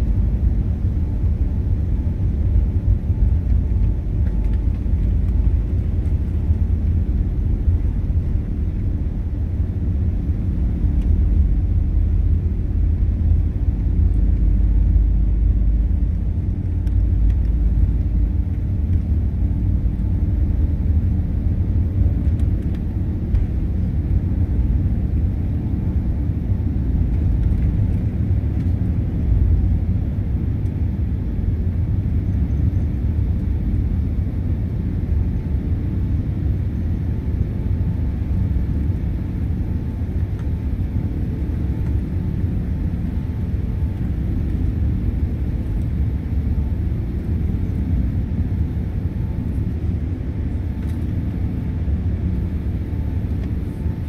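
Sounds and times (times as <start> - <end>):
aircraft takeoff roll rumble: 0.0 - 54.0
jet engines low rumble: 0.0 - 54.0.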